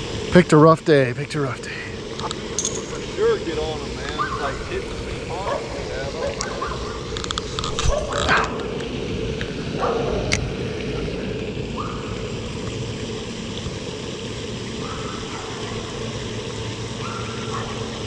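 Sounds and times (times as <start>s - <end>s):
fountain splashing: 0.0s - 18.0s.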